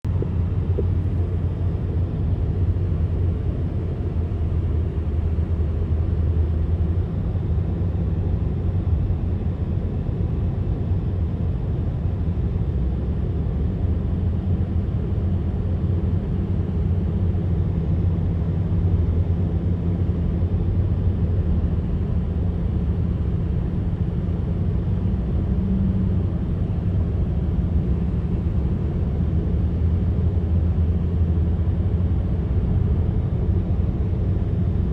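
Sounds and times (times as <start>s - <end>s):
trucks driving rumble: 0.0s - 34.9s.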